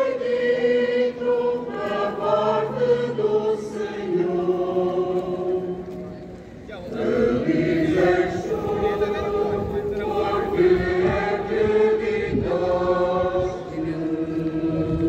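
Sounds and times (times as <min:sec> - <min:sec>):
chant sung over loudspeakers: 0:00.0 - 0:15.0.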